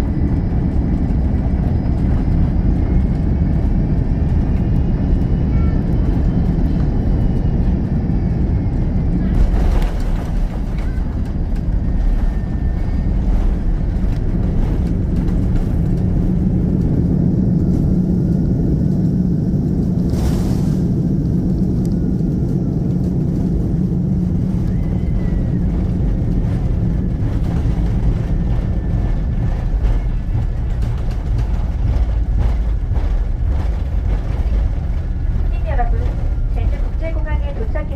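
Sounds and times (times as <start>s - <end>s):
broad rush of noise: 0.0s - 18.1s, 22.1s - 37.9s
airliner engines and rushing air: 0.0s - 37.9s.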